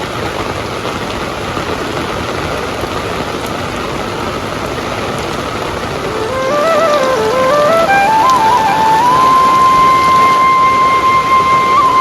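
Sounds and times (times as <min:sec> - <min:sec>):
heavy rain hissing: 0:00.0 - 0:12.0
raindrop ticks: 0:00.0 - 0:12.0.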